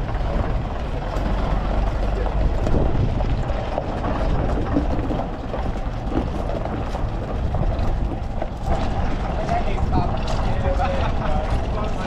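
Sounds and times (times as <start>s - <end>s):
outdoor background noise: 0.0s - 12.0s
vehicle engine rumbling: 0.0s - 12.0s.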